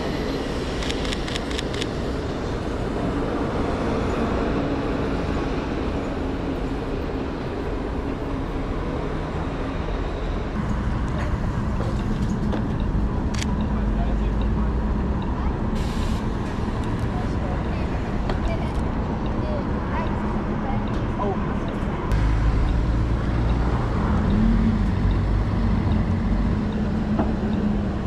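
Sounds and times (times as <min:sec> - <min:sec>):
city street traffic: 0:00.0 - 0:28.0
heavy vehicle humming: 0:00.0 - 0:28.0.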